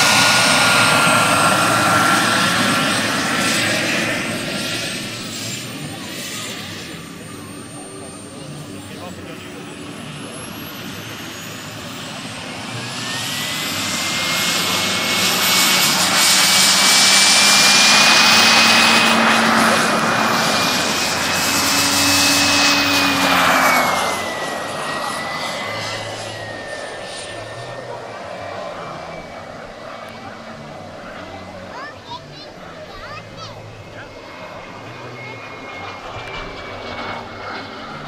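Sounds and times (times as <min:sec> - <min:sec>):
model plane turbine whine: 0:00.0 - 0:38.0.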